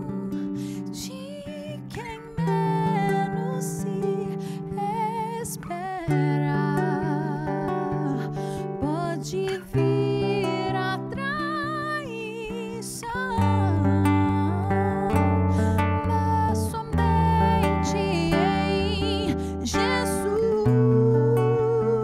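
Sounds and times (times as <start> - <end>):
classical guitar playing: 0.0 - 22.0.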